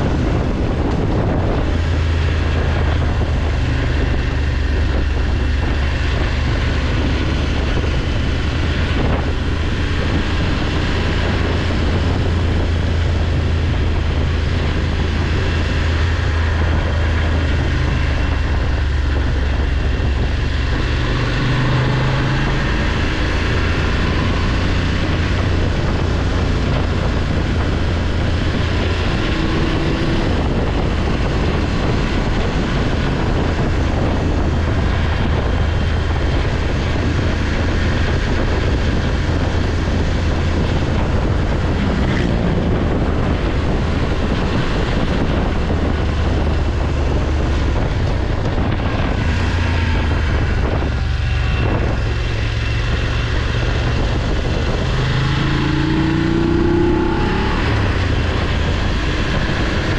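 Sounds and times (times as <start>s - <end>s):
motorcycle engine drone: 0.0s - 59.9s
wind rush: 0.0s - 59.9s.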